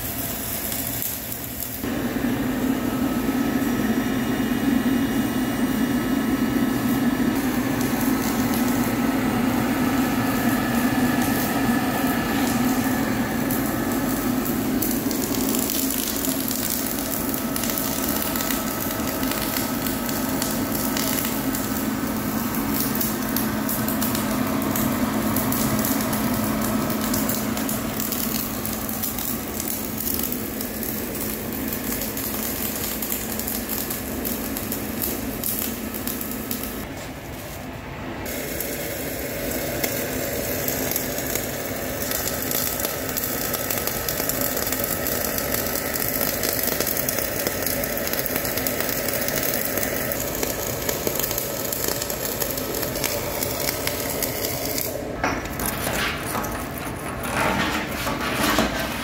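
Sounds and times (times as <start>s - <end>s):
welding arc crackling: 0.0s - 59.0s.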